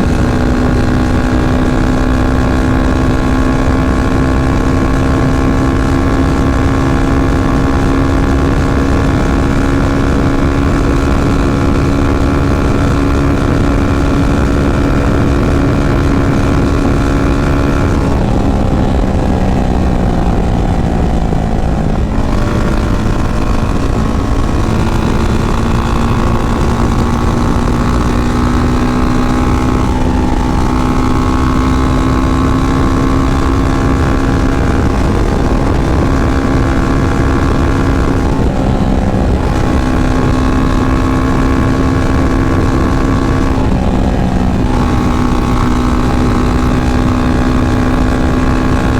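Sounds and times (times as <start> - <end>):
motorcycle engine cruising: 0.0 - 48.9.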